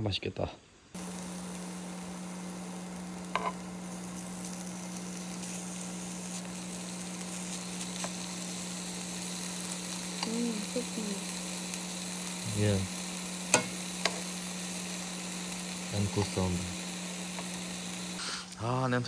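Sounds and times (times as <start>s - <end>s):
low hum: 1.0s - 18.2s
beef sizzling in a frying pan: 1.0s - 18.4s.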